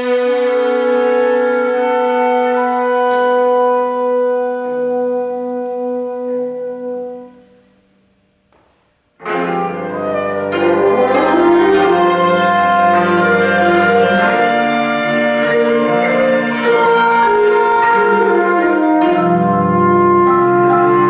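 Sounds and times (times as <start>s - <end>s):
chamber ensemble playing: 0.0s - 7.5s, 9.2s - 21.0s.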